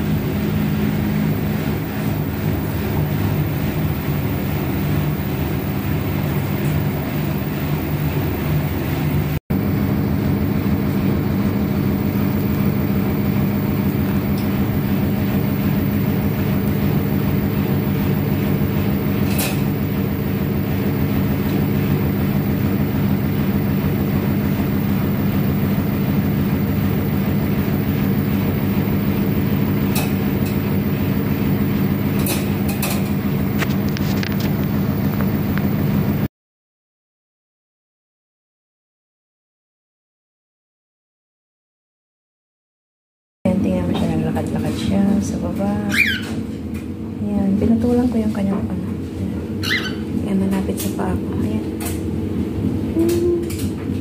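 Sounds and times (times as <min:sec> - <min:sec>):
low mechanical hum: 0:00.0 - 0:36.3, 0:43.5 - 0:54.0.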